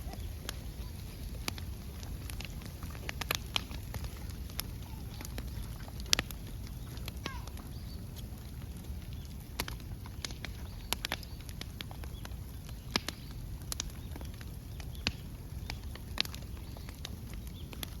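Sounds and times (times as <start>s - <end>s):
bamboo fire crackling and popping: 0.0s - 18.0s.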